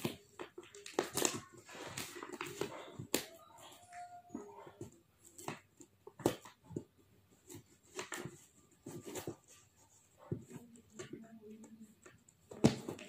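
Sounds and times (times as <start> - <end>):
paper and cardboard rustling: 0.0 - 13.0.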